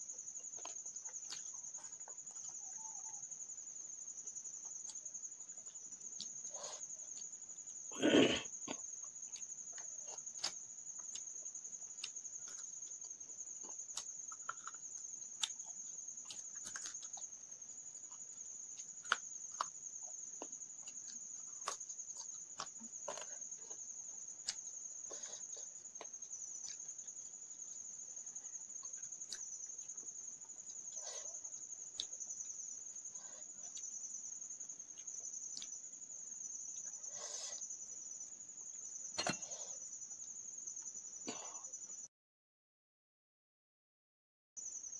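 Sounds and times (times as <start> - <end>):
fingers eating rice: 0.0 - 40.4
soft chewing: 0.0 - 41.9
insect trill: 0.0 - 42.1, 44.6 - 44.9.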